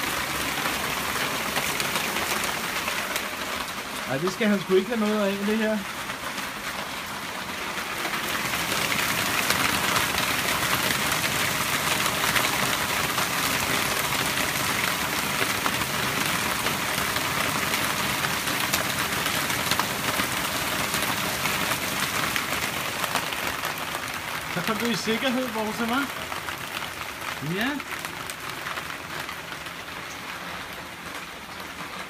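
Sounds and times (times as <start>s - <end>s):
heavy hail pelting down: 0.0s - 32.0s.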